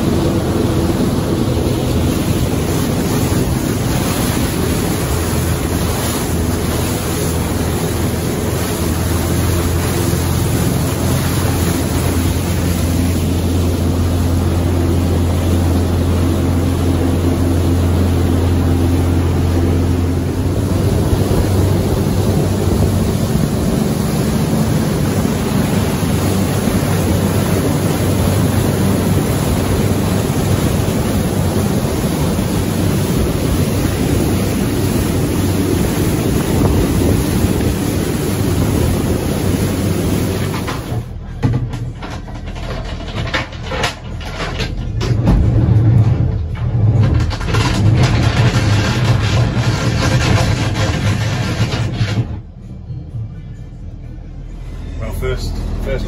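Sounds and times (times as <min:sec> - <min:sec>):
wind buffeting microphone: 0:00.0 - 0:41.2, 0:44.8 - 0:52.6
boat diesel engine droning: 0:00.0 - 0:56.0
churning wake rushing: 0:00.0 - 0:56.0.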